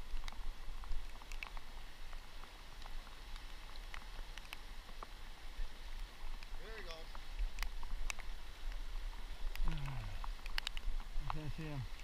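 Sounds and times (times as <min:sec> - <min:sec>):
light ticks: 0:00.0 - 0:05.2, 0:05.8 - 0:12.0
river water rushing past rocks: 0:00.0 - 0:12.0
wind rumbling on microphone: 0:00.0 - 0:12.0.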